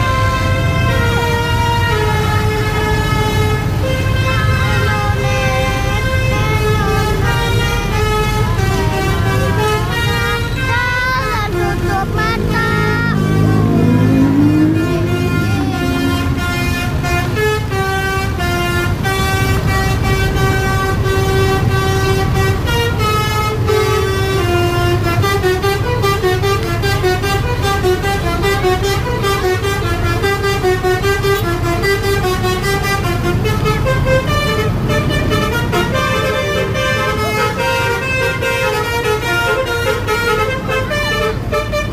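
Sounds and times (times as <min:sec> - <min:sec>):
bus engine rumble: 0:00.0 - 0:41.9
bus horn playing a tune: 0:00.0 - 0:41.9.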